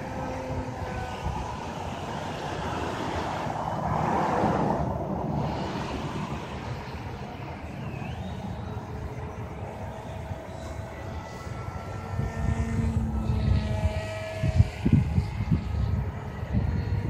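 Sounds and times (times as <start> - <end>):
model plane motor whine: 0.0 - 17.0
wind buffeting microphone: 0.0 - 17.0.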